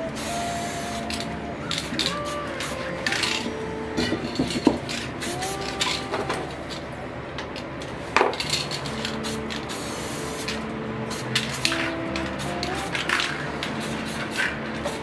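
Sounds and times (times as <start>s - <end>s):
spray-paint can hissing: 0.0s - 6.2s, 8.4s - 15.0s.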